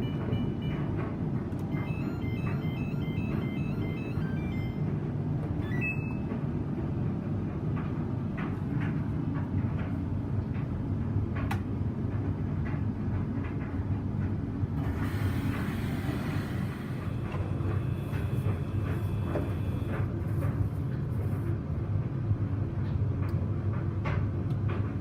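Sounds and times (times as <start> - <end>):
washing machine rumbling: 0.0 - 25.0.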